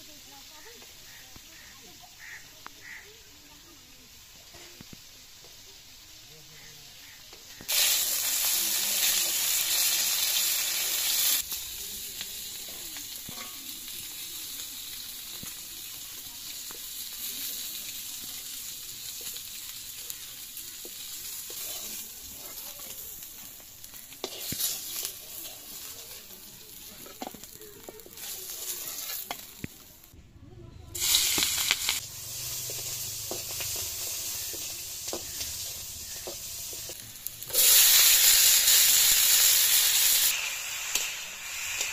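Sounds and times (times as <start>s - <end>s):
fish sizzling in hot oil: 0.0s - 30.2s, 31.0s - 41.9s.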